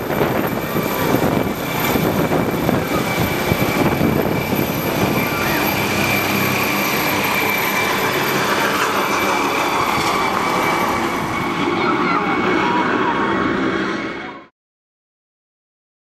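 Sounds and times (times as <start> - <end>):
broad rushing noise: 0.0 - 14.5
helicopter rotor chop: 0.0 - 14.5
helicopter turbine whine: 0.0 - 14.5.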